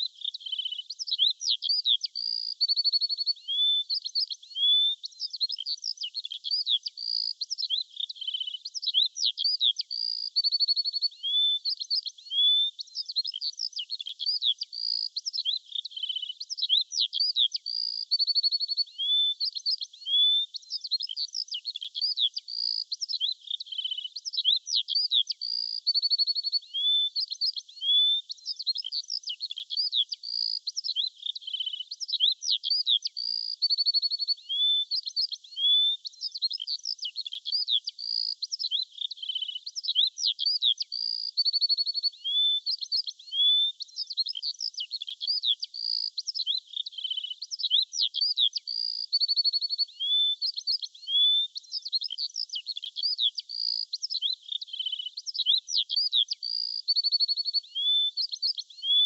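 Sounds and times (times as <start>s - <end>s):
birdsong chirps and trills: 0.0s - 59.0s.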